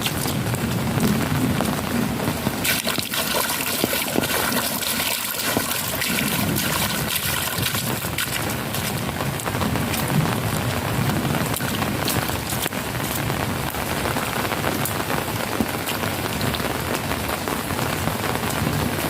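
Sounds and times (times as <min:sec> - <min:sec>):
heavy rain falling: 0:00.0 - 0:19.0
water running and splashing: 0:00.0 - 0:19.0.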